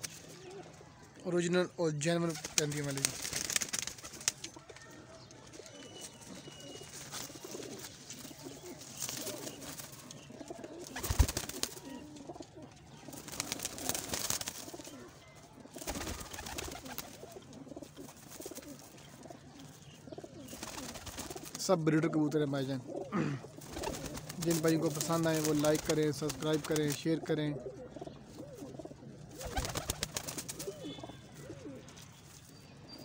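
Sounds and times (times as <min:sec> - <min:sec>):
pigeons cooing: 0:04.5 - 0:32.0.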